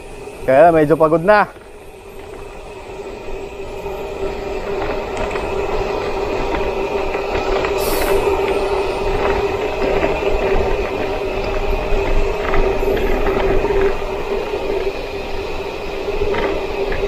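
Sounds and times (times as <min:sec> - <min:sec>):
bicycle rolling whine: 0:00.0 - 0:17.0
wind rushing over microphone: 0:00.0 - 0:17.0.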